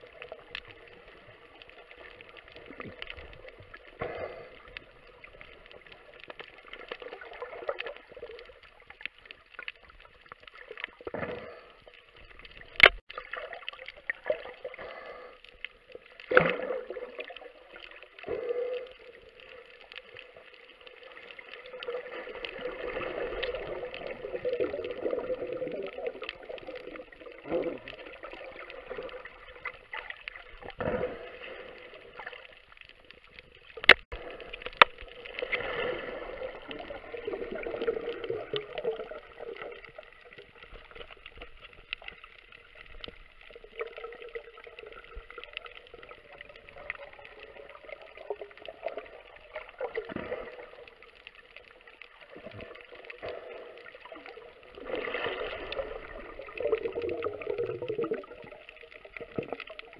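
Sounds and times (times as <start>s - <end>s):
scuba exhalation bubbles gurgling: 0.0s - 59.9s.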